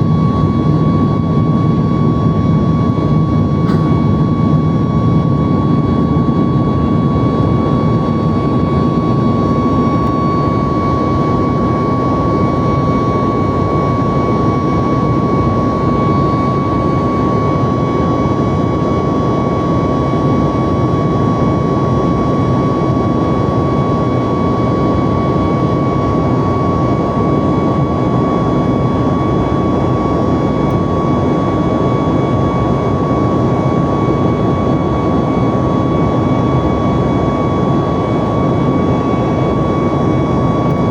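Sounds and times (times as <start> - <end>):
high engine whine: 0.0 - 40.9
jet engines running: 0.0 - 40.9.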